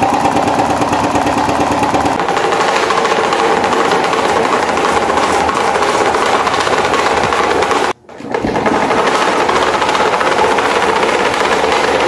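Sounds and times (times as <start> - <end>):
electric fan rattling: 0.0 - 12.0.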